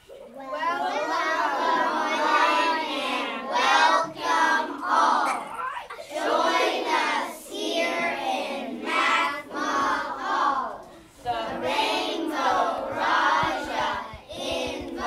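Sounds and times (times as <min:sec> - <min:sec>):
children singing in unison: 0:00.3 - 0:15.0.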